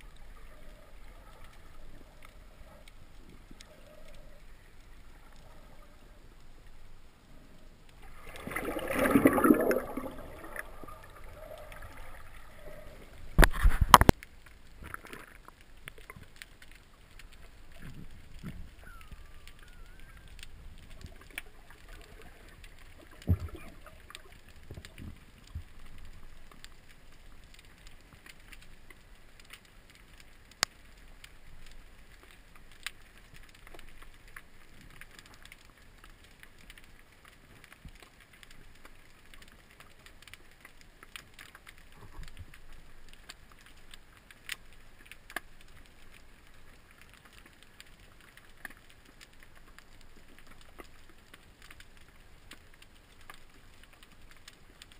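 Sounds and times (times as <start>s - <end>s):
sharp underwater clicks: 0.0s - 6.8s, 7.8s - 54.9s.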